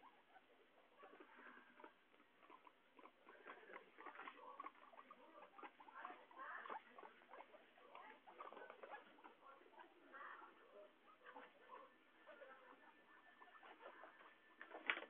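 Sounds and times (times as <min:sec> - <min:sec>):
guinea pigs munching greens: 0:00.0 - 0:15.0.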